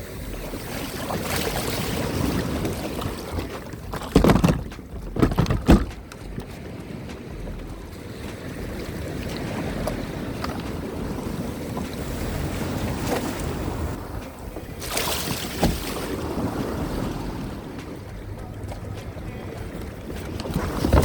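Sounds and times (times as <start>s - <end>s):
sea water around kayak: 0.0s - 21.0s
wind on microphone: 0.0s - 21.0s.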